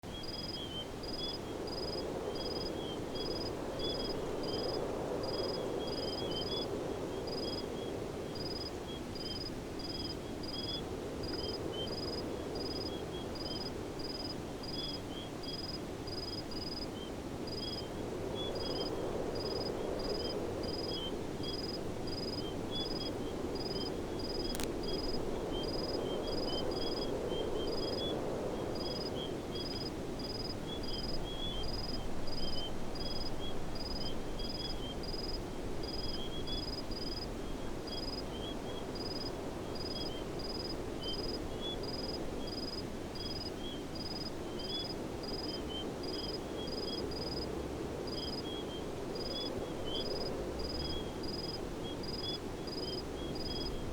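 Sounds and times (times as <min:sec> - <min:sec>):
insects twittering: 0:00.1 - 0:47.4, 0:48.1 - 0:53.9.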